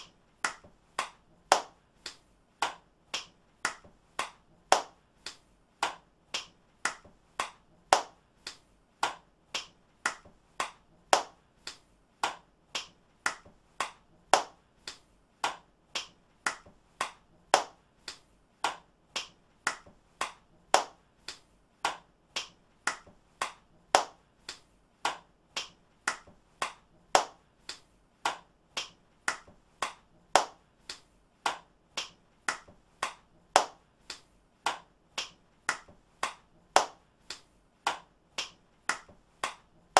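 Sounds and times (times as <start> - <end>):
person clapping hands: 0.0 - 39.9.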